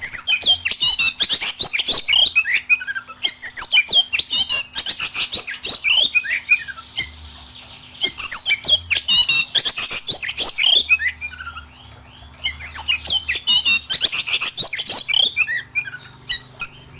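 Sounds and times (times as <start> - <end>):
songbird singing harsh chirps: 0.0 - 16.9.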